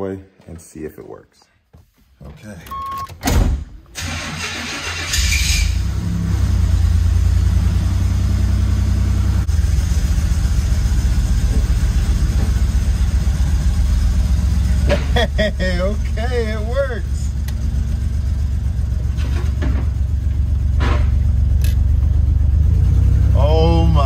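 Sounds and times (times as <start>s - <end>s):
car engine cranking and running: 4.0s - 24.0s.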